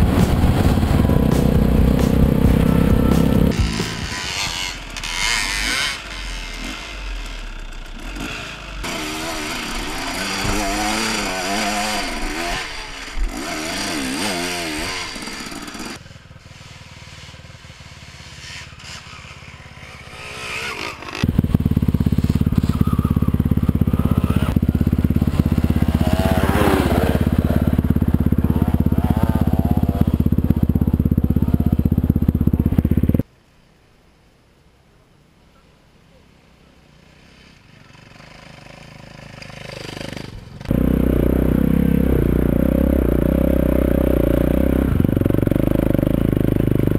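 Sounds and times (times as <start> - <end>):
dirt bike revving: 0.0 - 33.2, 37.9 - 46.9
bike engine rumbling: 0.0 - 33.3, 37.6 - 46.9.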